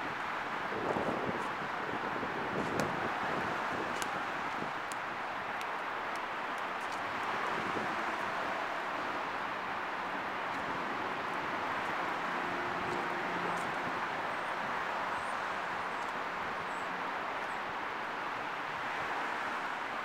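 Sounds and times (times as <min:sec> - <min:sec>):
distant traffic rushing: 0:00.0 - 0:20.0.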